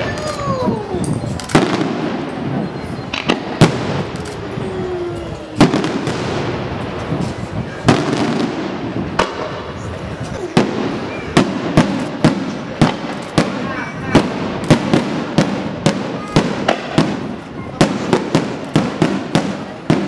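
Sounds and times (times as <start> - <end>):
firework crackle: 0.0 - 20.0.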